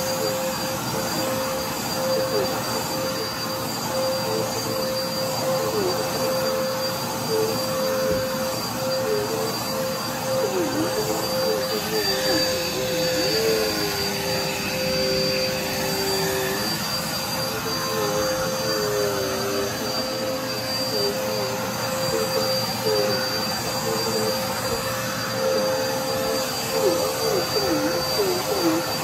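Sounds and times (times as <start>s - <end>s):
vacuum cleaner on carpet: 0.0s - 29.0s.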